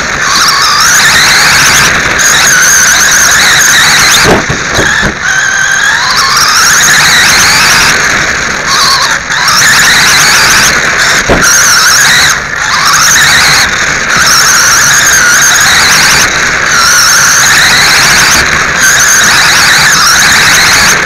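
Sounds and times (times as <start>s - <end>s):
high-pitched rc car motor whine: 0.0s - 21.0s.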